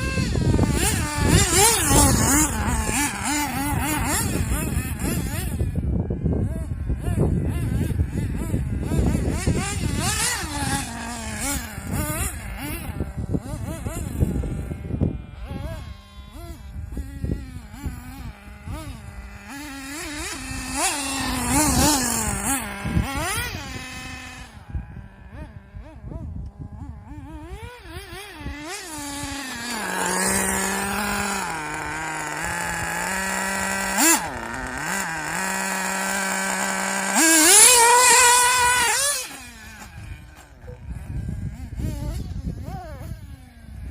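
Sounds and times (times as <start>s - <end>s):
rc buggy engine revving: 0.0s - 43.9s.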